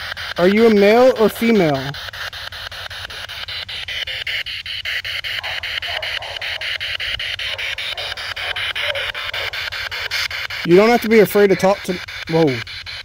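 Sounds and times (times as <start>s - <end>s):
radio static with rapid clicks: 0.0s - 13.0s.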